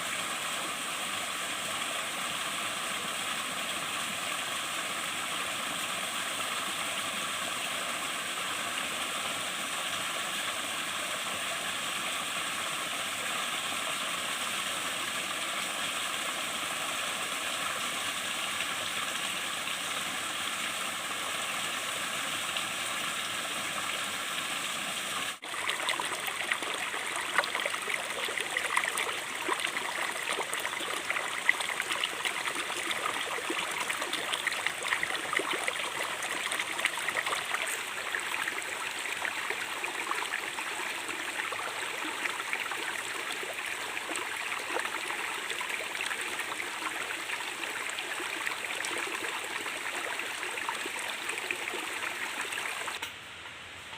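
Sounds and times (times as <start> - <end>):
stream water flowing: 0.0 - 53.1.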